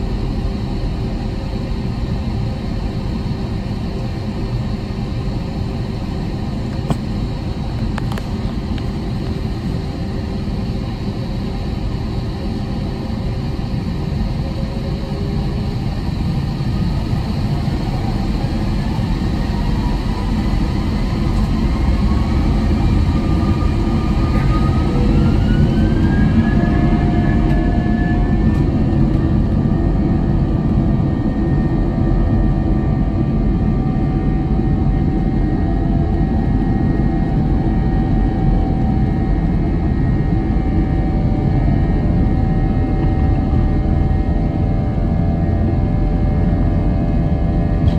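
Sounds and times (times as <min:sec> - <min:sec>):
jet engines rumbling and whining: 0:00.0 - 0:47.9.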